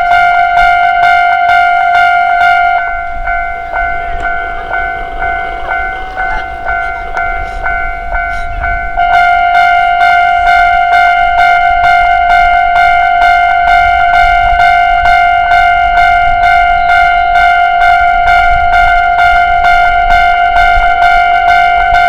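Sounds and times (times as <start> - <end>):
level crossing bell ringing: 0.0 - 22.0
train passing with low rumble: 0.0 - 22.0.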